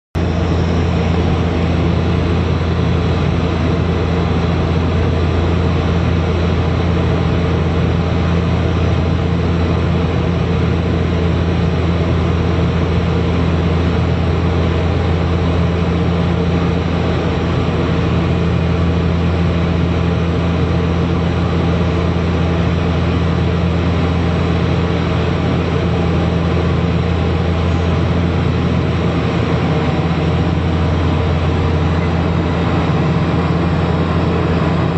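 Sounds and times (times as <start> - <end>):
hum: 0.2 - 34.9
turboprop engine drone: 0.2 - 34.9.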